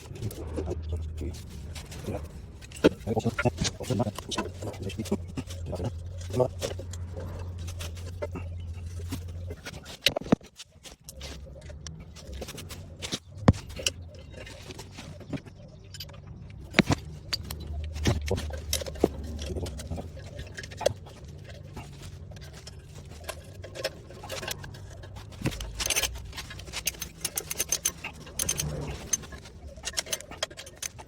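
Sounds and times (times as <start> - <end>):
hand tools clicking and clinking: 0.0 - 31.0
steady low hum: 0.0 - 31.0.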